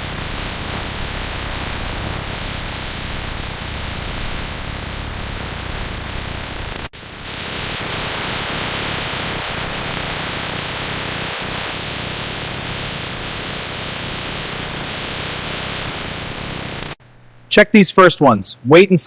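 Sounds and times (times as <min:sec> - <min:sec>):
steady static hiss: 0:00.0 - 0:19.0.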